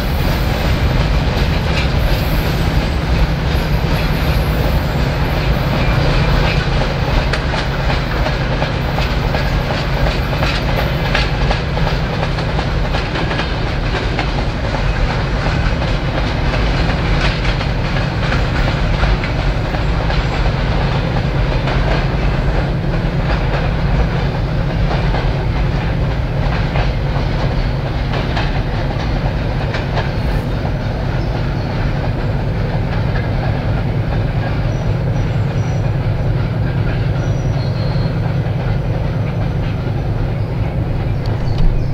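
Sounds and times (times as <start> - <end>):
diesel locomotive rumble: 0.0 - 41.9
wheels clicking over rail joints: 0.0 - 41.9.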